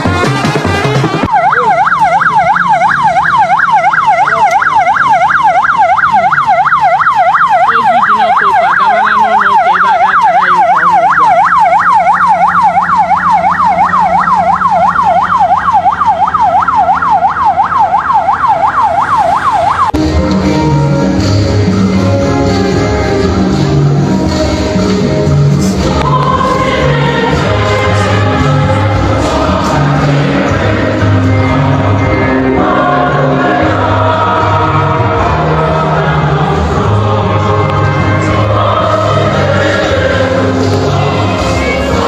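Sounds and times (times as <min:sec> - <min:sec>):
siren wailing: 0:00.0 - 0:21.2, 0:25.8 - 0:42.0.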